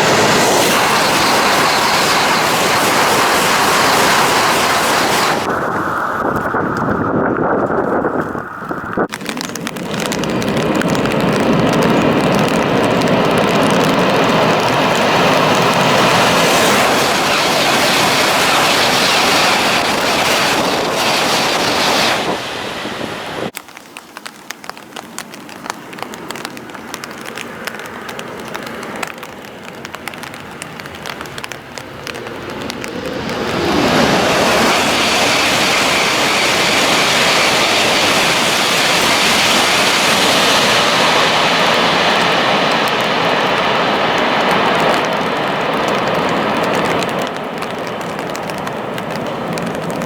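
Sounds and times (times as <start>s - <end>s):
high-speed train roaring past: 0.0s - 6.6s, 9.6s - 23.5s, 30.0s - 50.0s
crackling rush: 0.0s - 50.0s.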